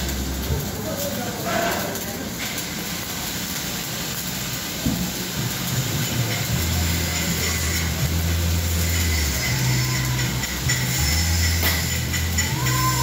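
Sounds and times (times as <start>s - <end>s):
welding arc crackling hiss: 0.0s - 13.0s.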